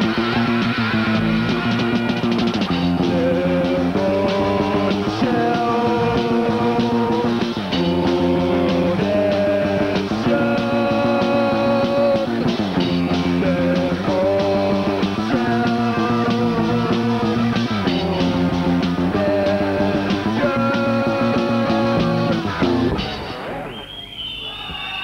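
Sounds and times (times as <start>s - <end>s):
live rock band playing: 0.0s - 23.8s.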